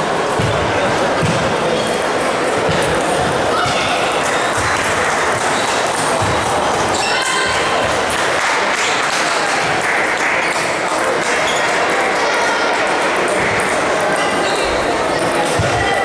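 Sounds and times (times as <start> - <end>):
chatter of voices: 0.0 - 16.0.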